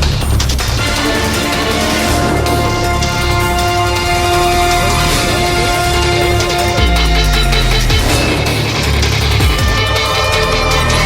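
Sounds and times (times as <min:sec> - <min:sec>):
loud electronic music with deep bass: 0:00.0 - 0:11.0.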